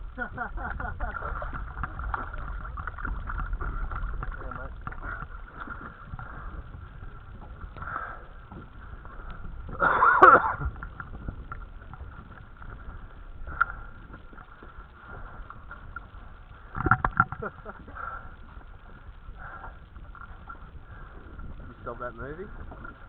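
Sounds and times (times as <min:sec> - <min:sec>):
water noise: 0:00.0 - 0:23.0
wind noise: 0:00.0 - 0:23.0.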